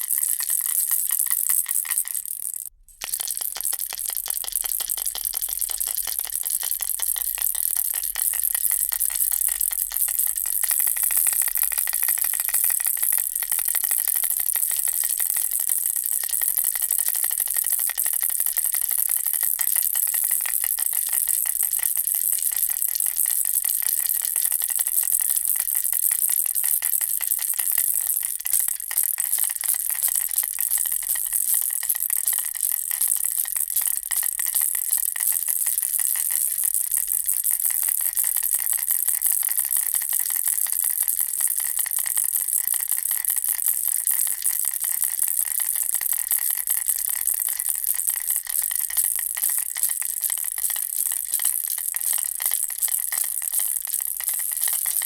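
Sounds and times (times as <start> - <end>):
baby rattle shaken rapidly: 0.0 - 55.0.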